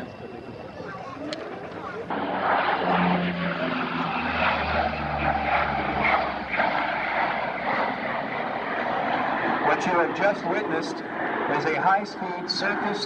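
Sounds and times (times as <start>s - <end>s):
propeller aircraft passing low: 0.0s - 13.0s.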